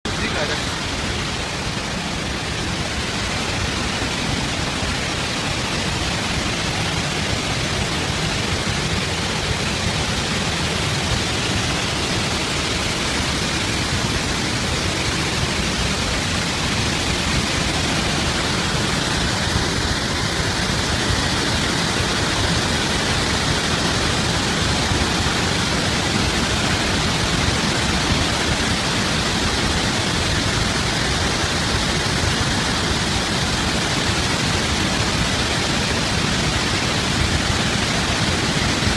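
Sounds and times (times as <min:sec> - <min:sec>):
water rushing through spillway: 0:00.0 - 0:38.9.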